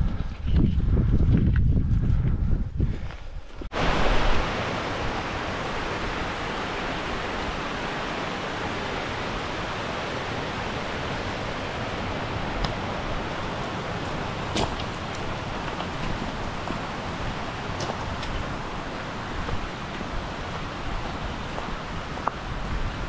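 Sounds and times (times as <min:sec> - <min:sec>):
water rushing over rocks: 0:03.7 - 0:23.0.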